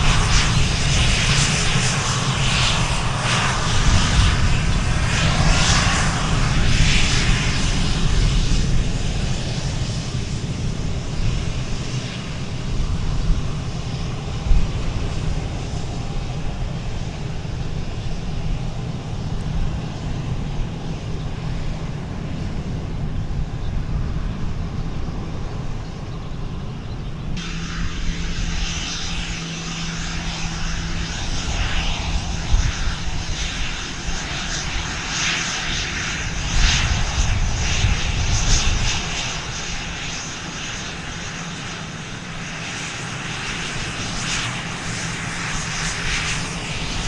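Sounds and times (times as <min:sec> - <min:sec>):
airplane engine passing: 0:00.0 - 0:47.0.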